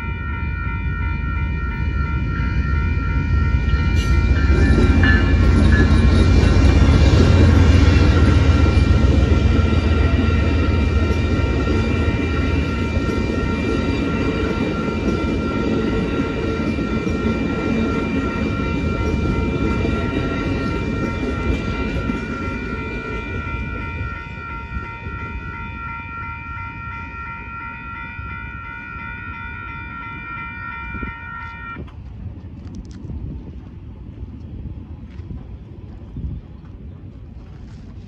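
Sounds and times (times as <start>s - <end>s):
railroad crossing bell ringing: 0.0s - 31.9s
train cars rumbling on rails: 0.0s - 38.0s.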